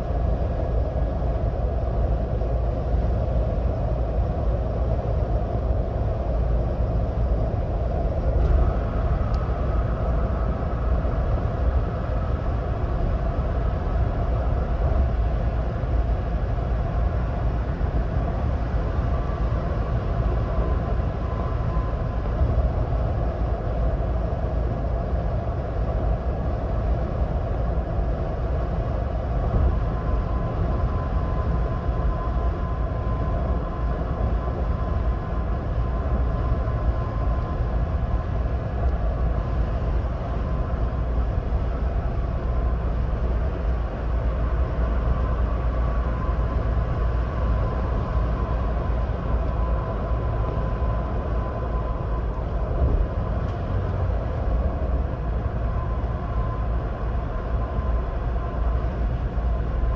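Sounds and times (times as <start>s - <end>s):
faint whine: 0.0s - 59.9s
road and engine rumble: 0.0s - 59.9s.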